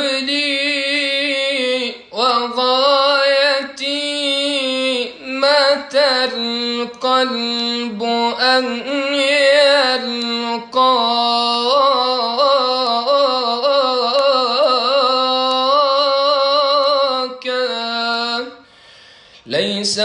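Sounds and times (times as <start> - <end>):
man chanting unaccompanied: 0.0 - 18.6, 19.5 - 20.0.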